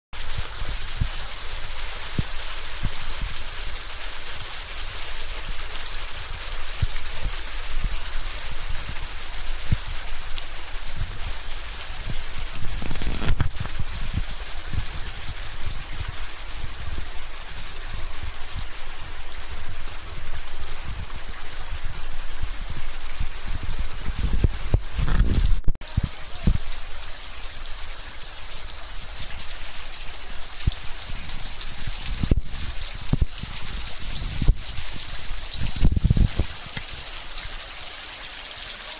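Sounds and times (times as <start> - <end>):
water dripping: 0.2 - 38.9
water trickling in a stream: 0.2 - 38.9.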